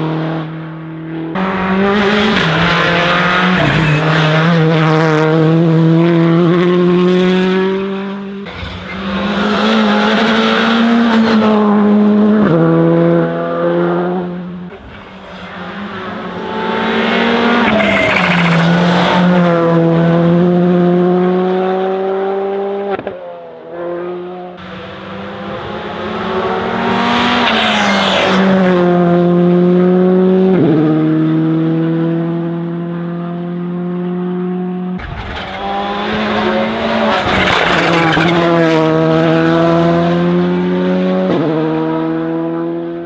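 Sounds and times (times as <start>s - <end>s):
rally car engines passing at full throttle: 0.0s - 43.0s.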